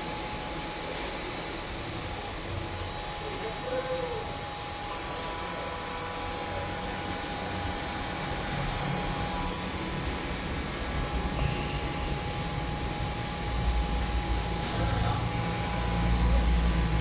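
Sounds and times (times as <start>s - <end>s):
hot-air blower running: 0.0s - 17.0s.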